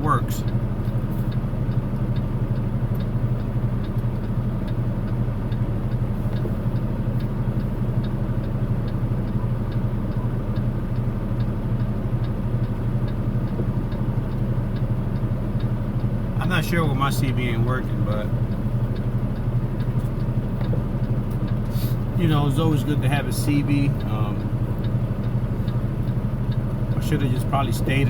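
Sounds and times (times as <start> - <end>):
faint regular ticking: 0.0 - 28.0
truck engine droning: 0.0 - 28.0.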